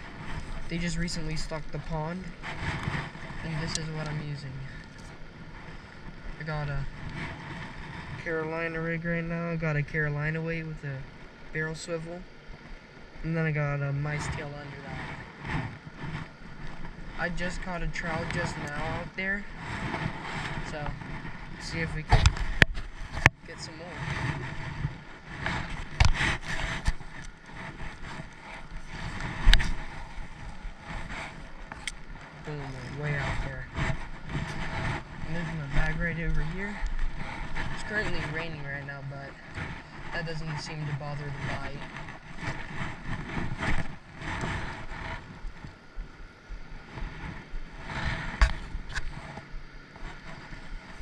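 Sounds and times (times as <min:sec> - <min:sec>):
steady rain: 0:00.0 - 0:08.7, 0:10.6 - 0:49.3
wind buffeting microphone: 0:00.0 - 0:51.0.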